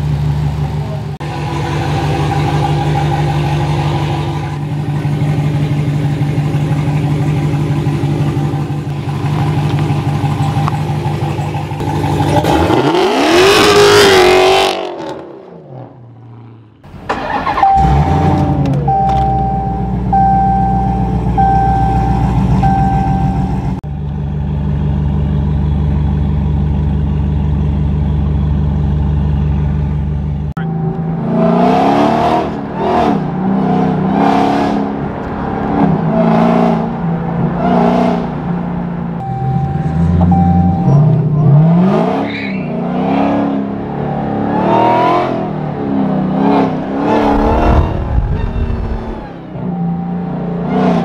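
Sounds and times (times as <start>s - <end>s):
car engine revving: 0.0s - 23.8s, 30.6s - 51.0s.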